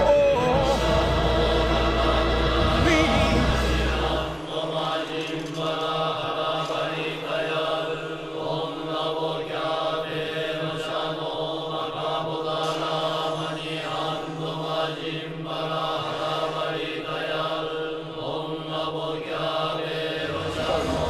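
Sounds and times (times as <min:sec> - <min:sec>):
voices chanting a low drone: 0:00.0 - 0:21.0.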